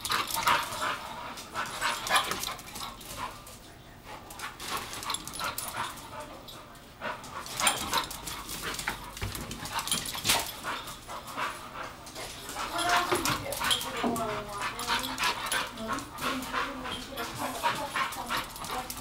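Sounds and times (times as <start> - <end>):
dog paws knocking and scuffing: 0.0 - 19.0.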